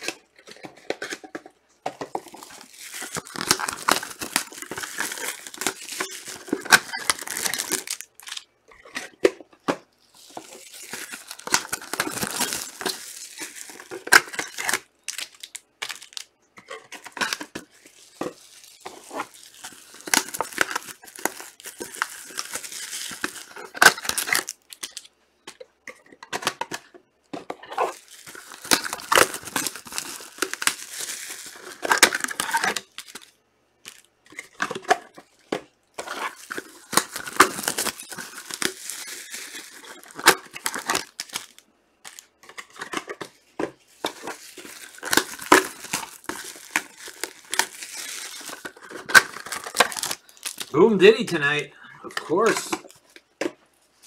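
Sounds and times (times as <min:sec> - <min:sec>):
card pack wrappers ripping: 0:02.1 - 0:09.2, 0:10.2 - 0:25.1, 0:27.8 - 0:34.8, 0:36.0 - 0:43.4, 0:44.0 - 0:51.6, 0:52.3 - 0:53.2.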